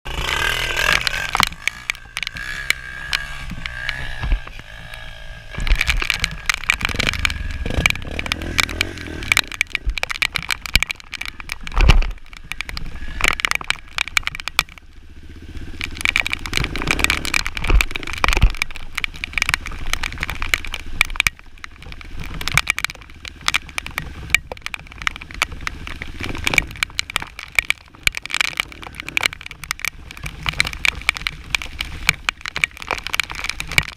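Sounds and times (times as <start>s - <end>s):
motorcycle engine: 0.0s - 33.9s
crackling and knocks: 0.1s - 33.9s.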